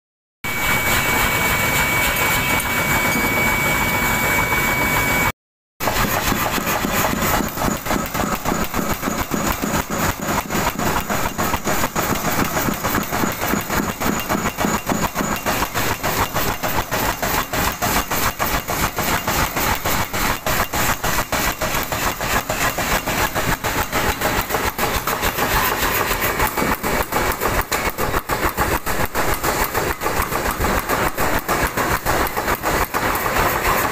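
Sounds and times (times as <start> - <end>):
power hammer blows on steel: 0.5 - 33.9.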